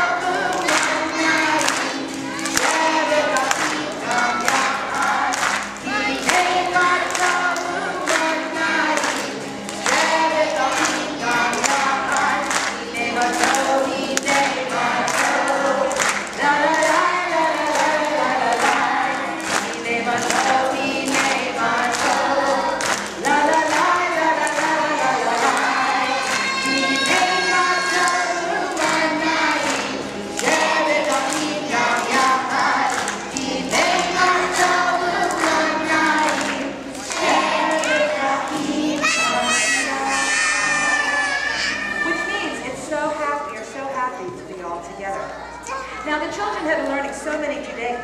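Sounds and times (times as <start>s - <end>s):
children clapping: 0.0s - 42.0s
children singing in chorus: 0.0s - 42.2s.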